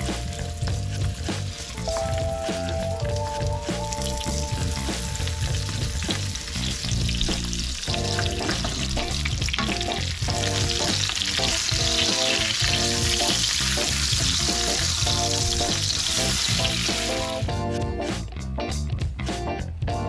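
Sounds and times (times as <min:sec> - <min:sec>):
oil sizzling and spitting: 0:00.0 - 0:17.4
background music with beat: 0:00.0 - 0:20.0.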